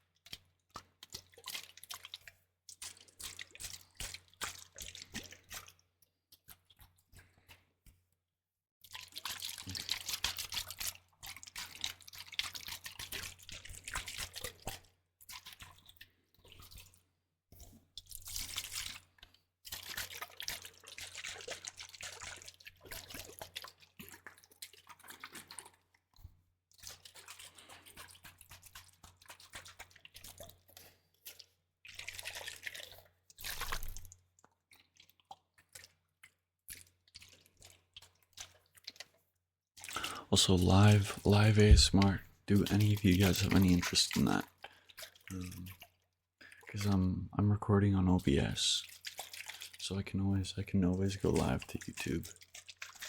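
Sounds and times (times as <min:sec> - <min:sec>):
wet dripping and crackling: 0:00.1 - 0:08.2, 0:08.8 - 0:53.0.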